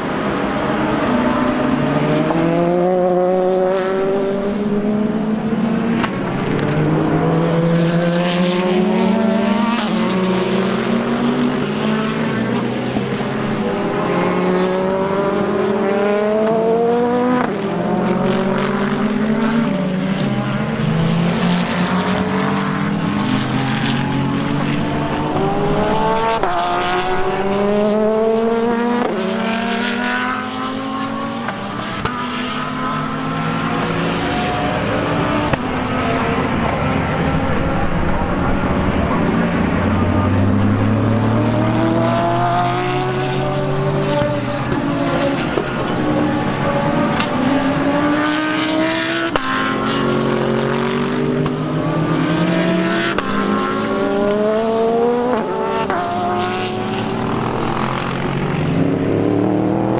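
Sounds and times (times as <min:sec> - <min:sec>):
race car engines accelerating: 0:00.0 - 0:59.9.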